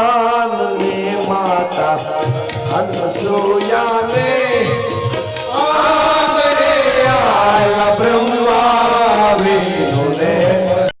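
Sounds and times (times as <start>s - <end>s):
devotional singing with accompaniment: 0.0s - 11.0s.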